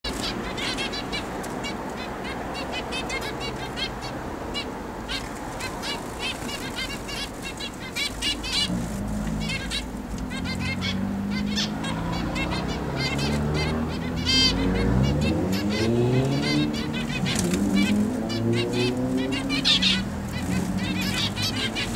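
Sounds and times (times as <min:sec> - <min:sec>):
finches calling: 0:00.1 - 0:21.9.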